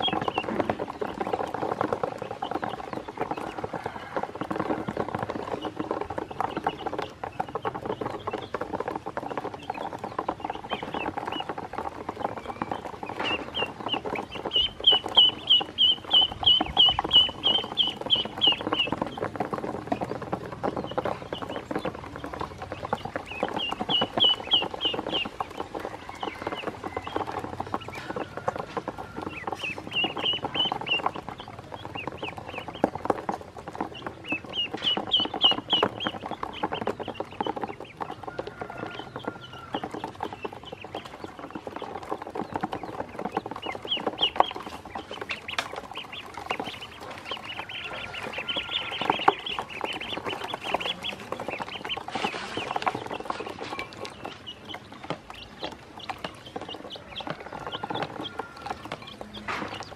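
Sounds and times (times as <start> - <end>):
ducklings peeping: 0.0 - 59.9.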